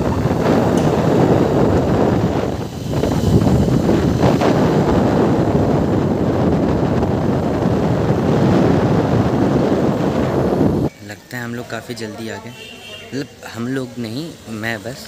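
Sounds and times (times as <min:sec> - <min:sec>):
wind rushing over microphone: 0:00.0 - 0:12.2
road noise: 0:00.0 - 0:15.0.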